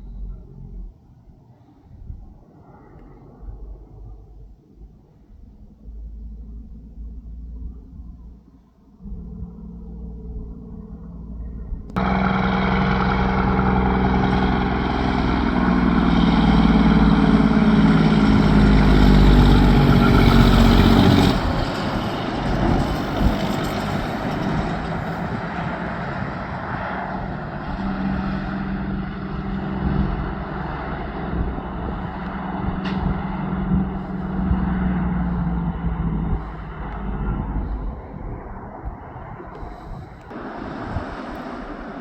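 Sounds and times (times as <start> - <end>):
truck diesel engine passing: 0.0 - 1.0, 5.8 - 42.0.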